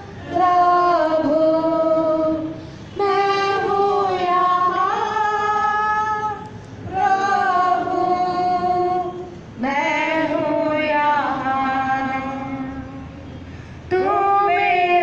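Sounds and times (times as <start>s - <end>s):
women singing a hymn: 0.0s - 15.0s.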